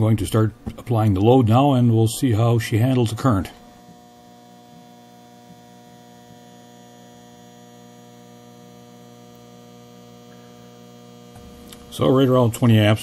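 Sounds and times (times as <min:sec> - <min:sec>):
power supply mains hum: 0:00.0 - 0:13.0.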